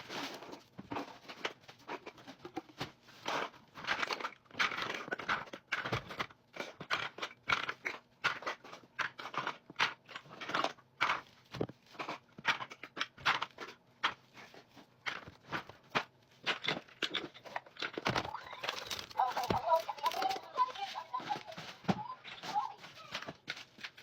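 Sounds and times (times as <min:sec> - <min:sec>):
rustling and crinkling: 0:00.0 - 0:24.0.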